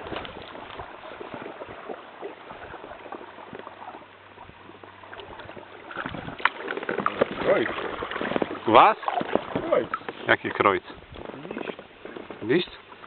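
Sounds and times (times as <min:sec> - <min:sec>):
water lapping against kayak: 0:00.0 - 0:13.0.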